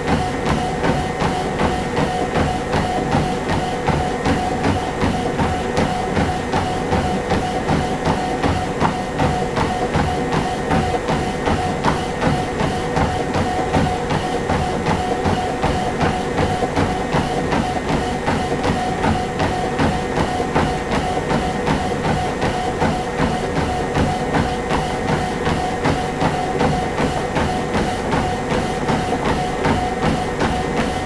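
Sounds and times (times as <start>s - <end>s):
footsteps on treadmill belt: 0.0s - 31.0s
treadmill whine: 0.0s - 31.0s.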